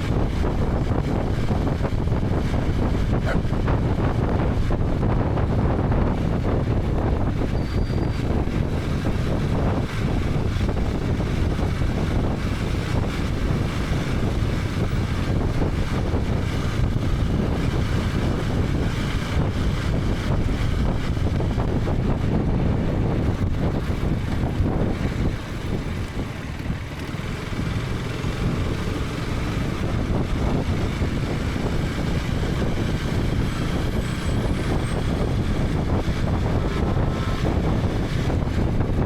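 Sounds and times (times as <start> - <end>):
motorcycle engine running: 0.0 - 39.0
wind noise on microphone: 0.0 - 39.0.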